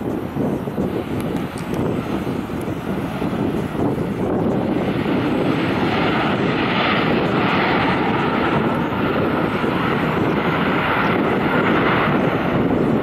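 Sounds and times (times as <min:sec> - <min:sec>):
jet engines rolling on runway: 0:00.0 - 0:13.0.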